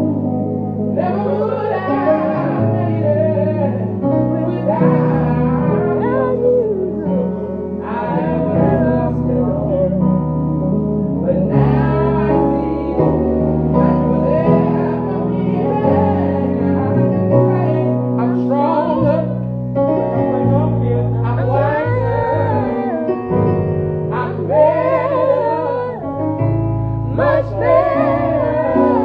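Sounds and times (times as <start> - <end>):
group singing gospel song: 0.0 - 29.0
sustained low instrumental chords: 0.0 - 29.0.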